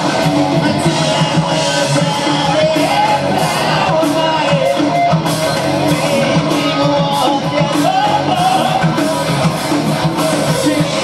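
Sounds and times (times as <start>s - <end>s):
heavy metal band playing: 0.0s - 11.0s.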